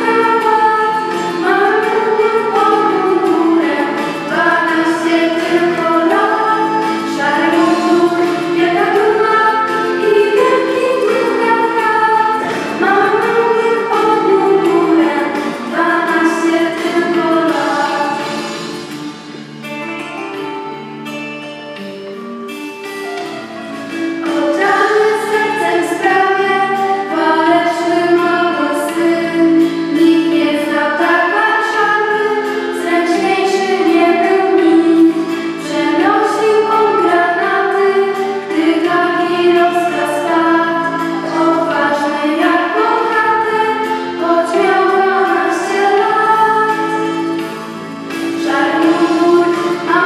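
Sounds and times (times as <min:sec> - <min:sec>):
girls singing together: 0:00.0 - 0:18.8, 0:24.2 - 0:50.0
sustained musical accompaniment: 0:00.0 - 0:50.0.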